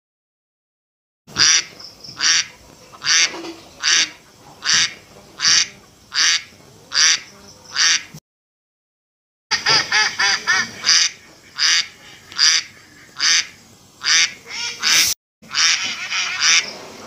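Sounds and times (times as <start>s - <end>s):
duck quacking: 1.3s - 8.2s, 9.5s - 16.7s.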